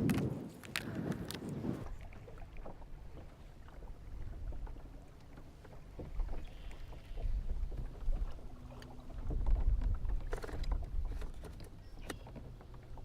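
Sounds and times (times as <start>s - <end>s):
wind rumbling on microphone: 0.0s - 5.0s, 5.8s - 13.0s.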